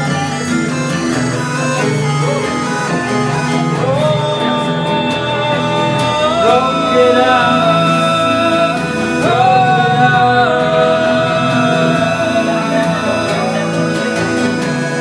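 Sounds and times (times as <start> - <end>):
electronic music with guitar and synths: 0.0 - 15.0.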